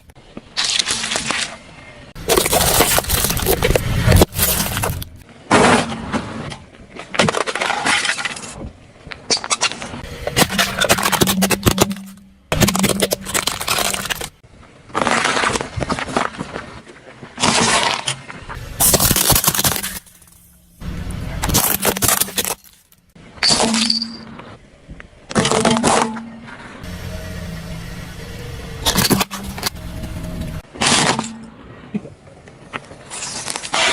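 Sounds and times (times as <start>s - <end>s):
objects crunching under car tyres: 0.0s - 24.6s, 28.1s - 33.9s.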